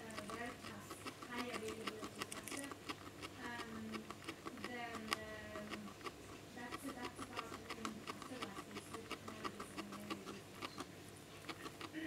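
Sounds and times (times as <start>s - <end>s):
guinea pig chewing hay: 0.0s - 12.0s.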